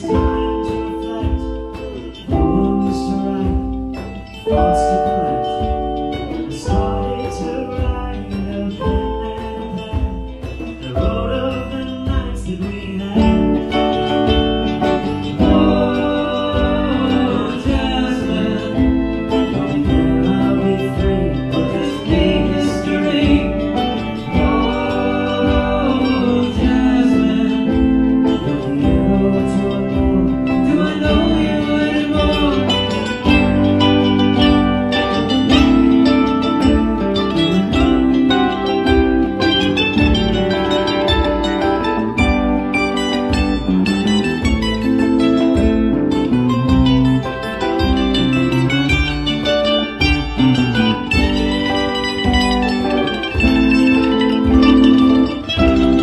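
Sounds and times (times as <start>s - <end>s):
bending guitar lines: 0.0s - 56.0s
electric guitars: 0.0s - 56.0s
hand drums: 0.0s - 56.0s
keyboard: 0.0s - 56.0s.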